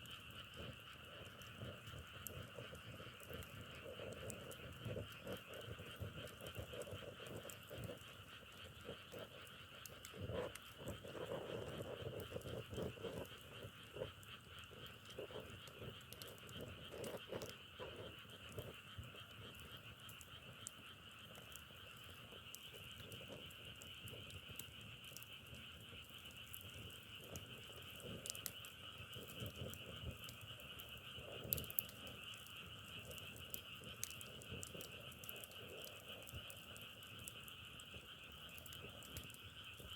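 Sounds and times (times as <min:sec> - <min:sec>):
firewood crackling: 0:00.0 - 0:39.9
frog chorus trilling: 0:00.2 - 0:39.9.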